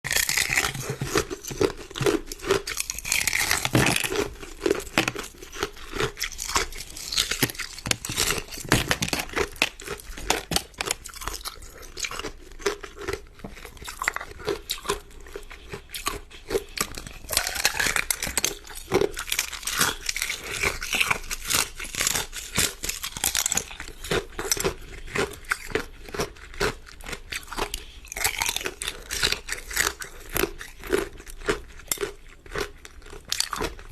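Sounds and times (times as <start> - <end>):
person chewing ice crunching: 0.0 - 33.9.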